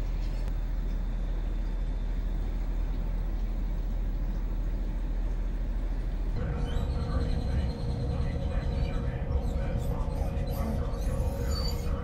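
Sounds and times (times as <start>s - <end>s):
engine idling rumble: 0.0s - 12.0s
steady high-toned hum: 0.0s - 12.0s.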